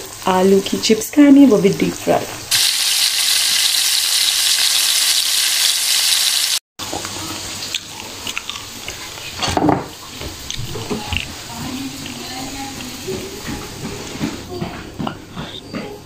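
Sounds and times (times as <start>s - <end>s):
fries sizzling in hot oil: 0.0s - 13.5s.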